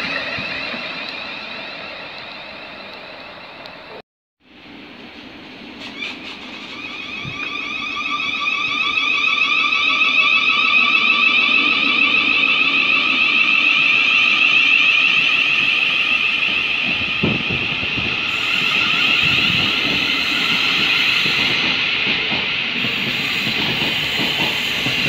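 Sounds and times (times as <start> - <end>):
electric train whine: 0.0 - 25.0
train low rumble: 0.0 - 25.0.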